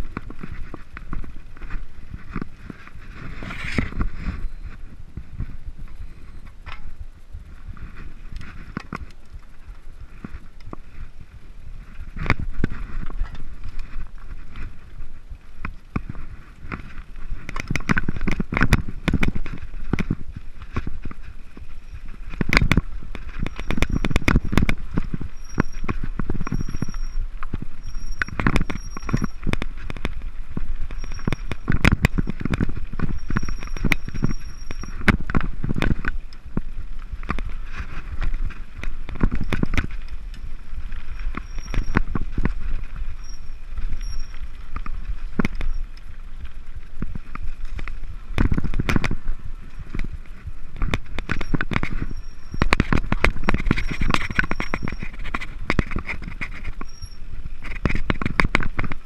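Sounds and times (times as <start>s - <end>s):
bike knocking and rattling over rocks: 0.0s - 59.0s
tyres crunching on loose ground: 0.0s - 59.0s.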